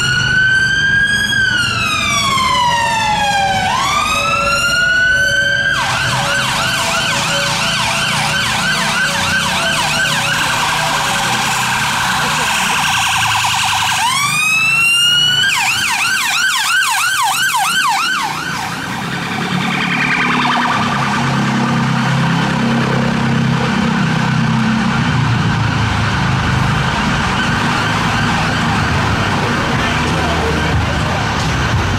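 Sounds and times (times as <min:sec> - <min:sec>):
emergency vehicle siren: 0:00.0 - 0:31.9
road traffic rumble: 0:00.0 - 0:31.9.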